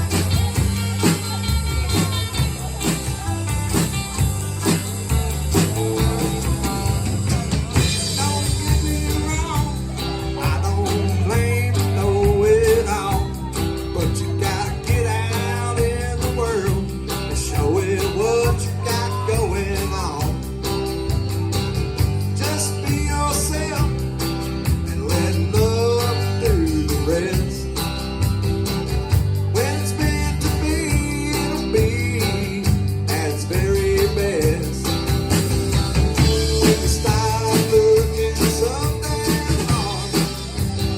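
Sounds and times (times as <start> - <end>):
live country band: 0.0 - 40.9.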